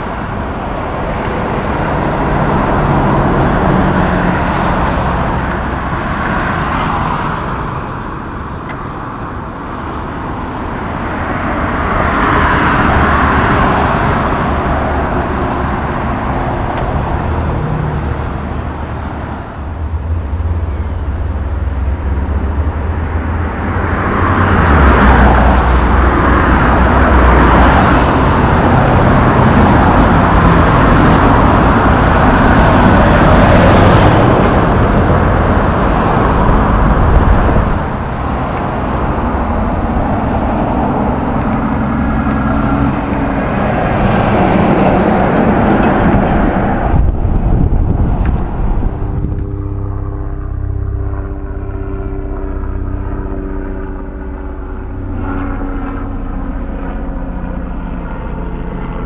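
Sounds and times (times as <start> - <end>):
diesel trucks driving past: 0.0 - 59.0
low truck engine tone: 0.0 - 59.0.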